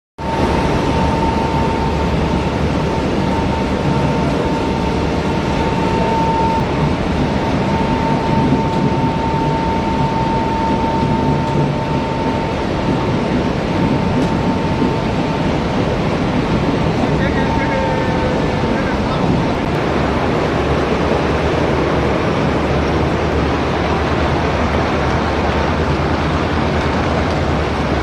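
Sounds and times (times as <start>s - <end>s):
ball mill drum rumbling: 0.2s - 28.0s
high whine: 0.2s - 28.0s.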